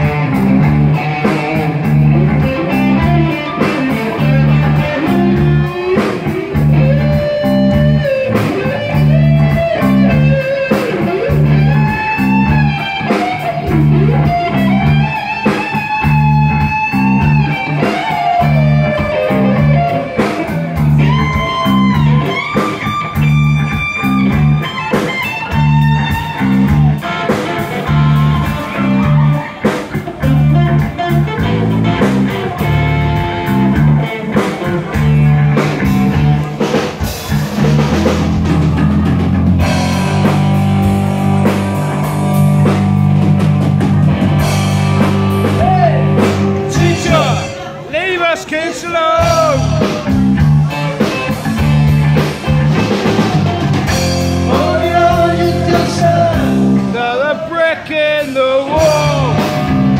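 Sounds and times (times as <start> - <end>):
bass and drum beat: 0.0 - 47.6, 49.1 - 57.1, 58.2 - 59.9
electric guitar soloing: 0.0 - 59.9.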